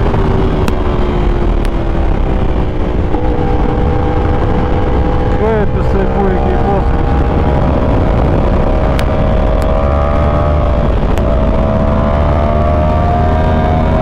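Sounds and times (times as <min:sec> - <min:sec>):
motorcycle engine running: 0:00.0 - 0:14.0
steady low rush: 0:00.0 - 0:14.0.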